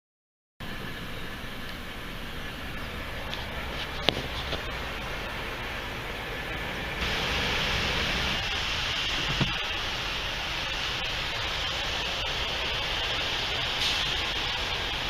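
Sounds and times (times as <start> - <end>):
steady rushing noise: 0.6 - 15.0.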